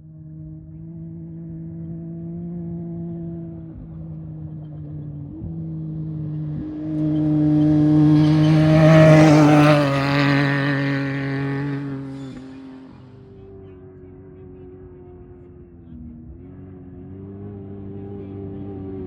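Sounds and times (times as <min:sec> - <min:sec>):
race vehicle engine passing: 0:00.9 - 0:19.0.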